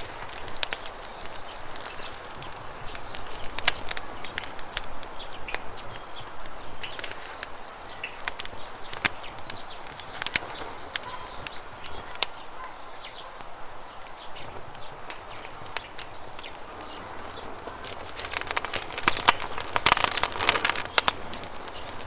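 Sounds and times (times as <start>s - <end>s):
campfire crackling and popping: 0.0s - 22.0s
bird chirps: 0.4s - 22.0s.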